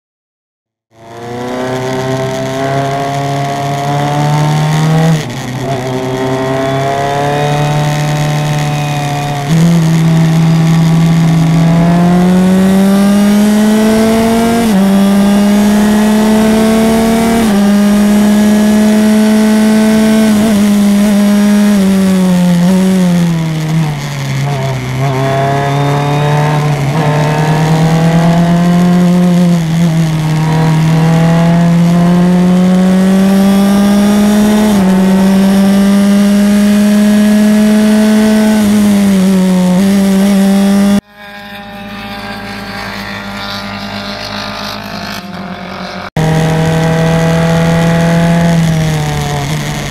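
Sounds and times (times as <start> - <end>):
race car engine at high revs: 0.9 - 49.9.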